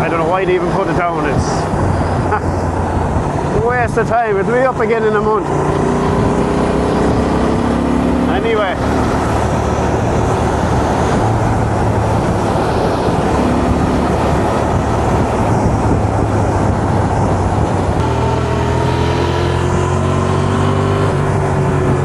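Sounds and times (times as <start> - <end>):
wind and road noise: 0.0 - 22.0
motorcycle engine: 1.6 - 22.0.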